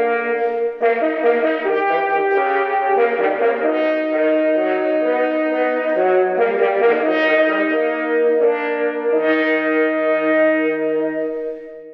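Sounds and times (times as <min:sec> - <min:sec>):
slow brass chords: 0:00.0 - 0:11.9.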